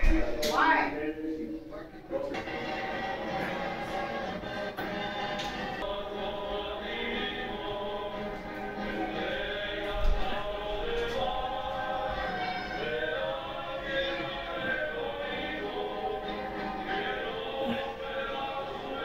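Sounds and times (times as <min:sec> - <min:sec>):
choir singing: 0:02.2 - 0:19.0.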